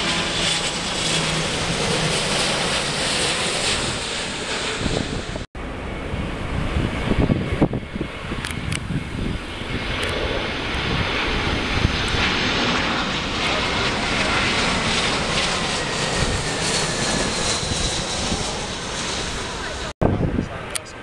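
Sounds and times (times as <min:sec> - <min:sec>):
jet airliner passing overhead: 0:00.0 - 0:21.0
wind buffeting microphone: 0:00.0 - 0:21.0.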